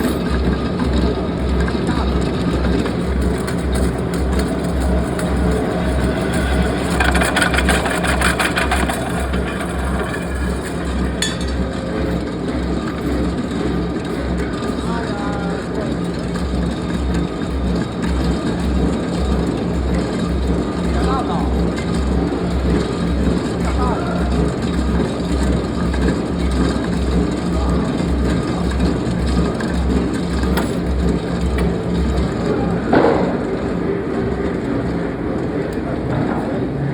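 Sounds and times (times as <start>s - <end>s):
metallic clank: 0.0s - 33.6s
rapid rattle of clicks: 0.0s - 36.3s
heavy machinery throbbing: 0.0s - 36.9s
pulsing low hum: 0.0s - 36.9s.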